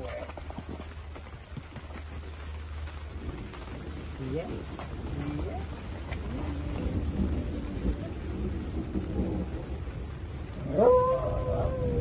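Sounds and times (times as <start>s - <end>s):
low rumbling background: 0.0s - 12.0s.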